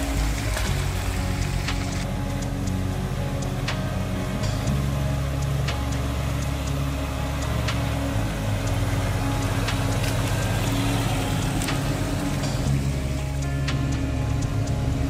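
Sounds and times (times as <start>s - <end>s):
vehicle engine and tyre noise: 0.0s - 15.0s.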